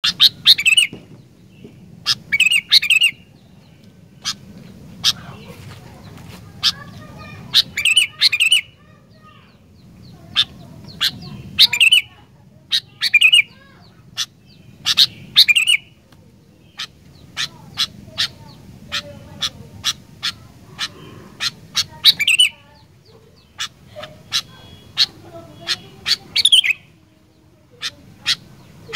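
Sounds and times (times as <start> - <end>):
bird chirping sharply: 0.0 - 3.6, 6.6 - 16.0, 16.6 - 27.0
faint low background rumble: 0.0 - 28.9.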